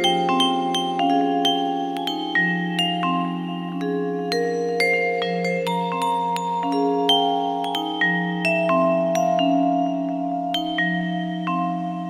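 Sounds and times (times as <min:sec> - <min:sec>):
sustained low vibraphone notes: 0:00.0 - 0:12.0
vibraphone notes: 0:00.0 - 0:12.0.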